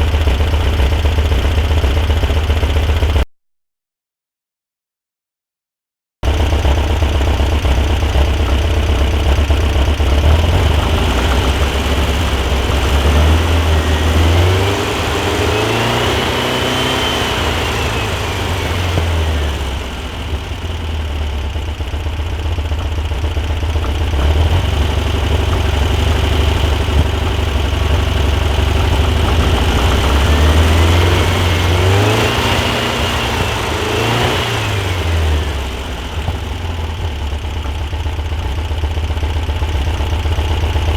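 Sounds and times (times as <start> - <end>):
car engine idling and revving: 0.0 - 3.3, 6.2 - 40.9.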